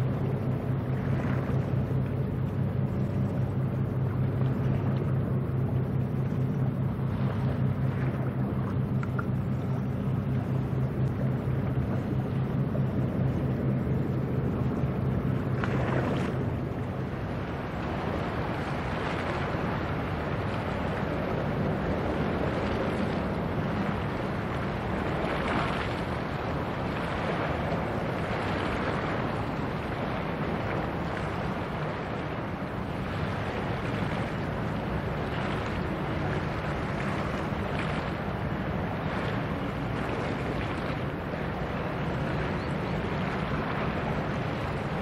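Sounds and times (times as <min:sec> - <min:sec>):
sea water washing: 0:00.0 - 0:45.0
ship engine droning low: 0:00.0 - 0:45.0
wind buffeting microphone: 0:00.0 - 0:45.0.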